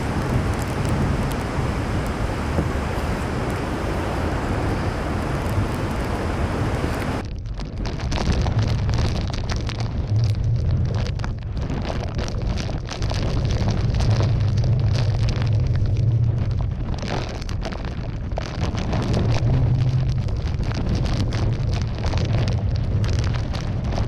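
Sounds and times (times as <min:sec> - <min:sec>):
wind gusting on microphone: 0:00.0 - 0:24.0
wind-driven rain lashing: 0:00.0 - 0:24.0.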